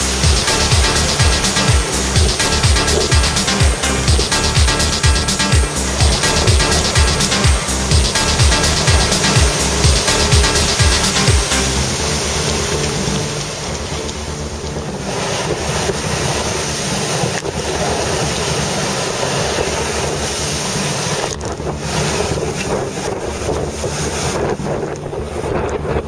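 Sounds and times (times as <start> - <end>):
sea water rushing along hull: 0.0 - 26.0
wind buffeting microphone: 0.0 - 26.0.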